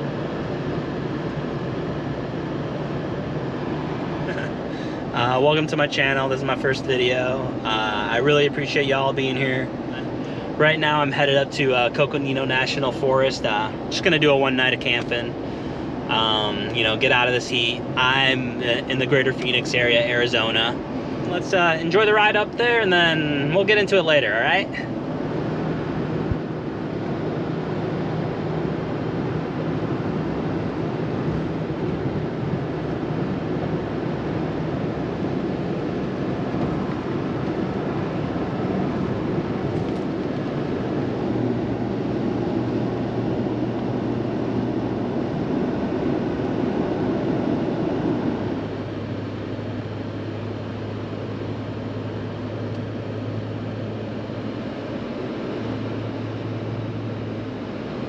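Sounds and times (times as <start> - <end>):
low engine hum: 0.0 - 58.0
road noise inside moving car: 0.0 - 58.0.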